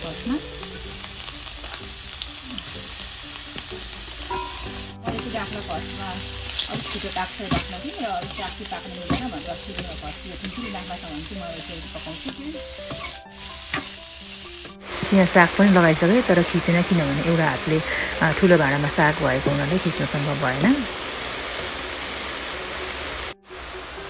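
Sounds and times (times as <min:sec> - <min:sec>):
greens sizzling in a pan: 0:00.0 - 0:24.0.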